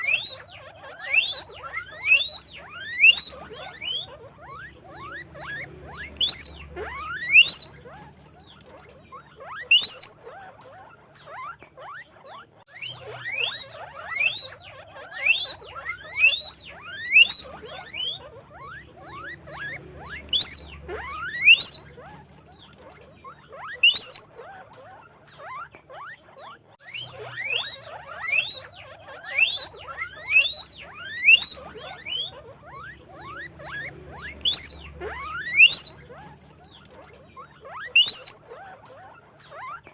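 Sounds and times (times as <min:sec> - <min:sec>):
guinea pigs wheeking: 0:00.0 - 0:39.9.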